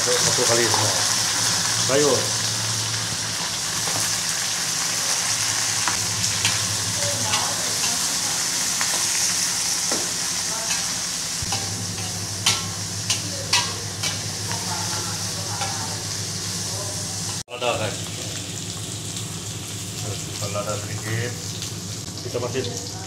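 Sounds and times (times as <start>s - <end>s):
food sizzling in a wok: 0.0s - 23.0s.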